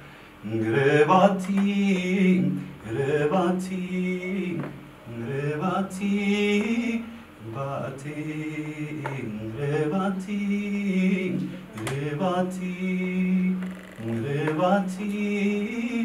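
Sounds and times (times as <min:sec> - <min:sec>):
man singing chant-like refrain: 0:00.4 - 0:16.0.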